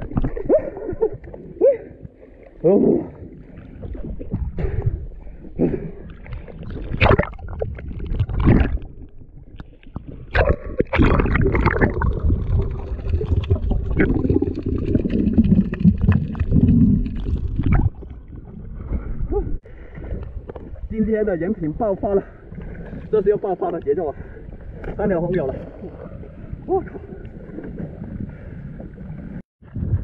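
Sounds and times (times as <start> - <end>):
water splashing and gurgling: 0.0 - 30.0.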